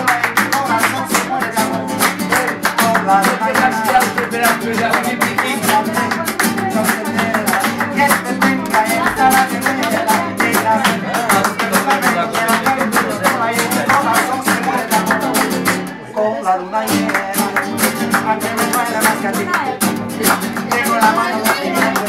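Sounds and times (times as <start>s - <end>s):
acoustic guitars strummed: 0.0s - 16.1s, 16.7s - 22.0s
man singing: 0.0s - 22.0s.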